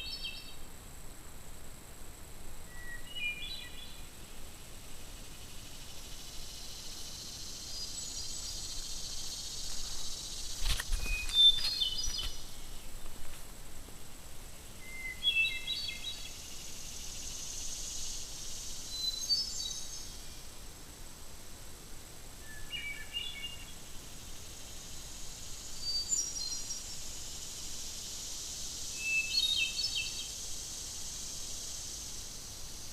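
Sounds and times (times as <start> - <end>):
songbird singing: 0.0 - 0.7, 2.6 - 13.4, 14.7 - 20.7, 22.4 - 32.9
steady high hiss: 0.0 - 32.9.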